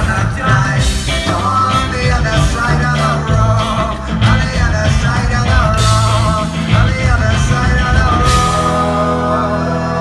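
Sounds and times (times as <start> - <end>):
live rock band playing: 0.0 - 10.0
man singing lead vocal: 0.0 - 10.0.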